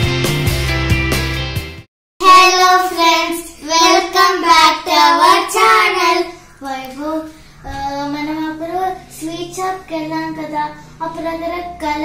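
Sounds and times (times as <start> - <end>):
children singing: 2.2 - 12.0.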